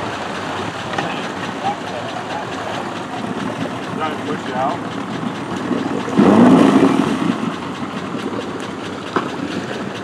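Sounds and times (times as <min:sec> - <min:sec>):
outboard motor droning: 0:00.0 - 0:10.0.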